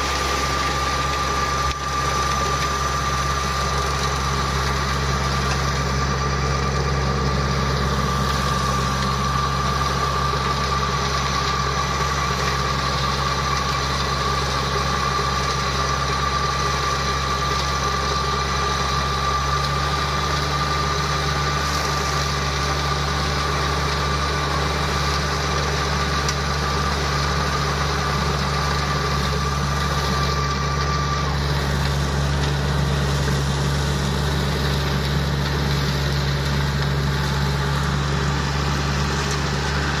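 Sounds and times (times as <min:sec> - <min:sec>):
mower engine running: 0:00.0 - 0:40.0.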